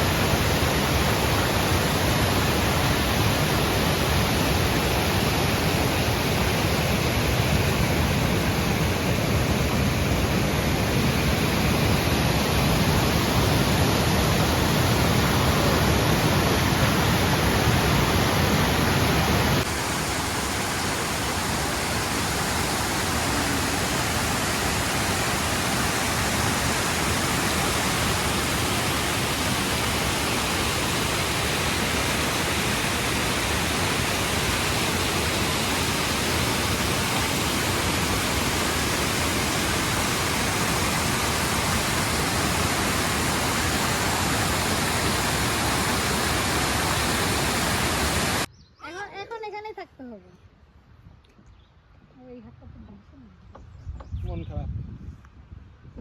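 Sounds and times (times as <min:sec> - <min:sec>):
waterfall rushing: 0:00.0 - 0:48.5.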